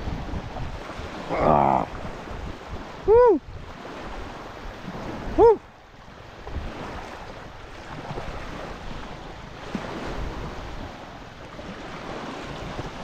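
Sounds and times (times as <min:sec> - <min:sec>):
water lapping at shore: 0:00.0 - 0:13.0
wind on microphone: 0:00.0 - 0:13.0.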